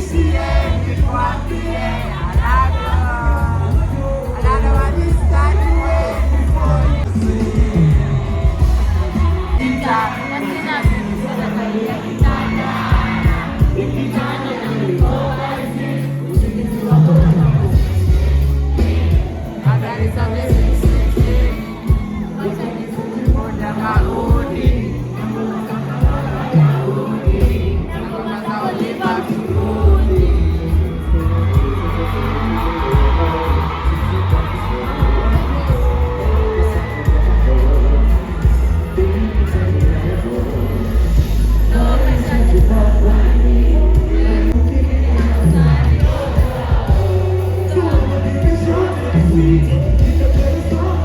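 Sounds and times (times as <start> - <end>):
bass notes: 0.0 - 15.7, 16.3 - 22.3, 27.3 - 28.1, 29.5 - 51.0
crowd singing along: 0.0 - 51.0
person singing: 0.0 - 51.0.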